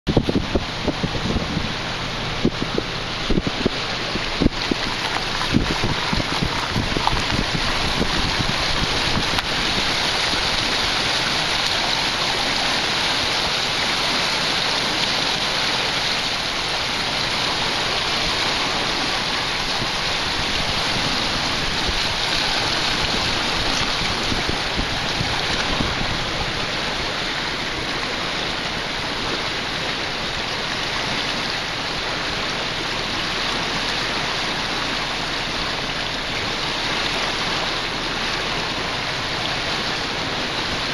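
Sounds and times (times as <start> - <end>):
floodwater rushing: 0.1 - 40.9
wind buffeting microphone: 0.1 - 40.9.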